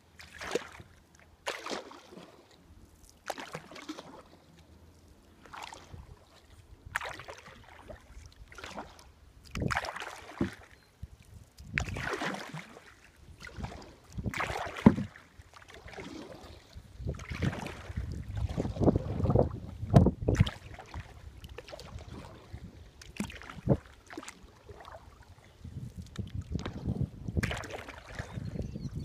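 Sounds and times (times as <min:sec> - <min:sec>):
paddle splashing in water: 0:00.1 - 0:29.0.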